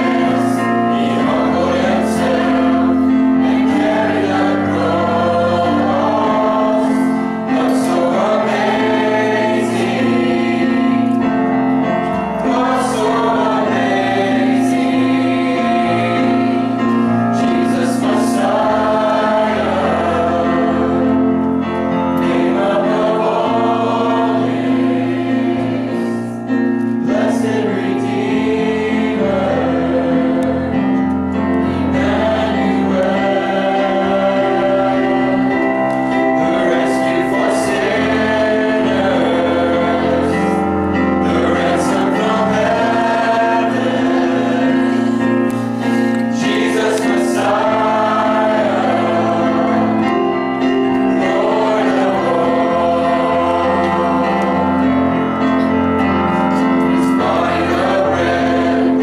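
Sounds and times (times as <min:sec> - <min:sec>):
worship song singing: 0:00.0 - 0:59.0.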